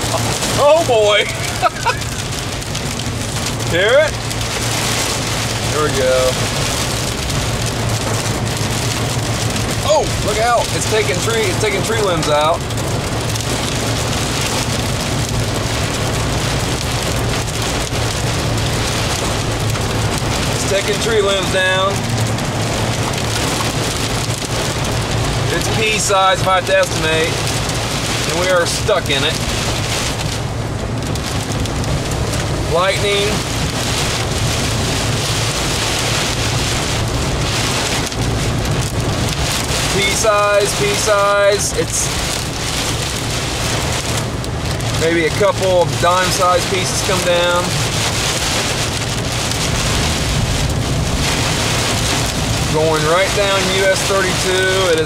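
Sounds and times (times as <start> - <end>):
hail and rain on vehicle roof: 0.0 - 55.0
vehicle low hum: 0.0 - 55.0.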